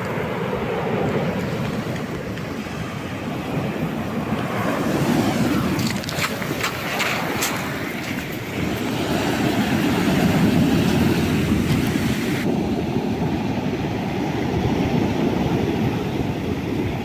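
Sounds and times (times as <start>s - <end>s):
storm waves breaking on shore: 0.0s - 17.0s.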